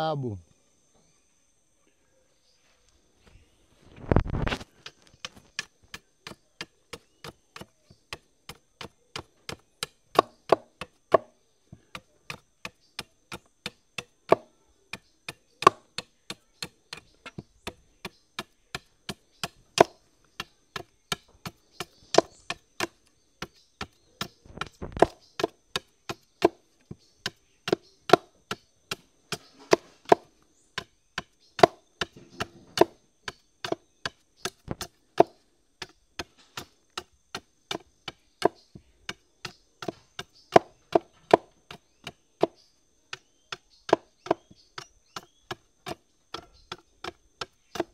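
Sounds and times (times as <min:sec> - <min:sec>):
machete chopping wood: 0:04.3 - 0:26.6, 0:27.2 - 0:47.9.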